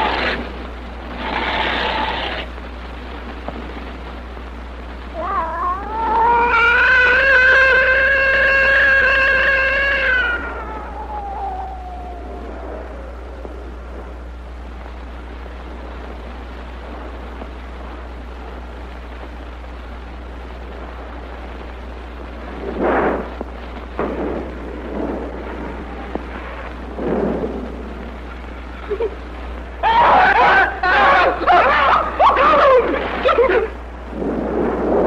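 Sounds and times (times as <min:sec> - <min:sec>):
film soundtrack hiss and hum: 0:00.0 - 0:35.0.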